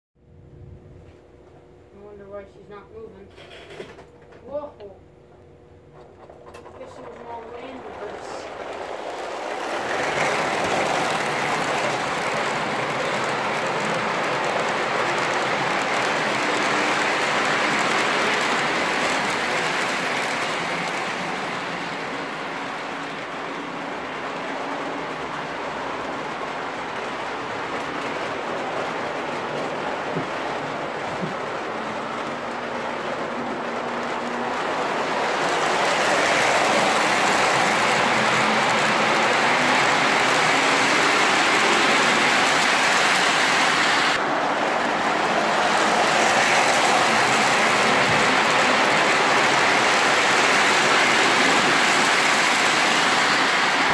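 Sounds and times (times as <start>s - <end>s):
model train rumbling and rattling: 5.3s - 53.9s.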